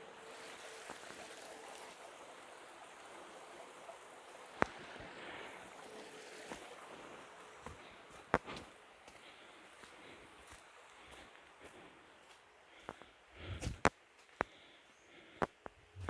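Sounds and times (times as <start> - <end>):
stream flowing: 0.0 - 14.3.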